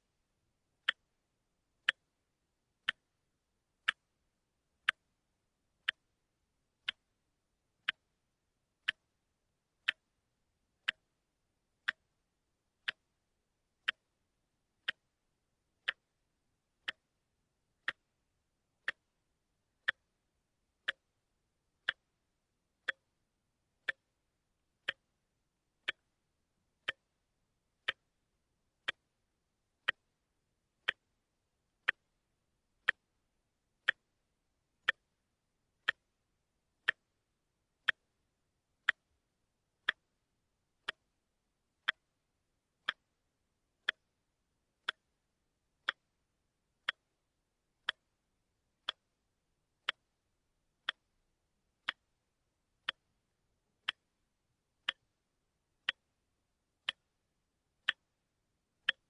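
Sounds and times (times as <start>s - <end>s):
watch ticking: 0.8s - 59.0s.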